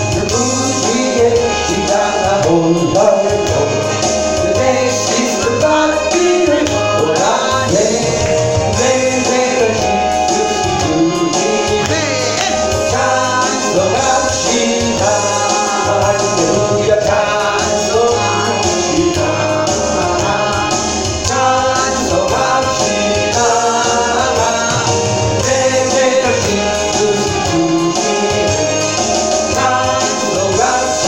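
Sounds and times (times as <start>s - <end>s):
group of voices singing: 0.0s - 31.0s
instrumental accompaniment: 0.0s - 31.0s.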